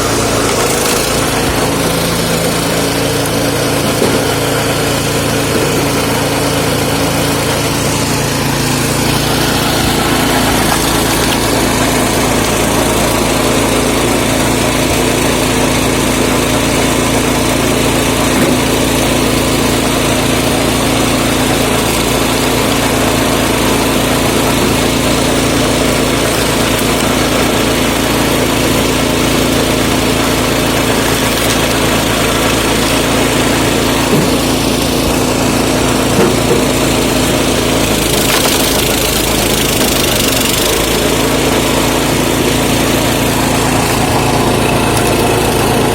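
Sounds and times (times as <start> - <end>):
petrol engine running: 0.0 - 45.9.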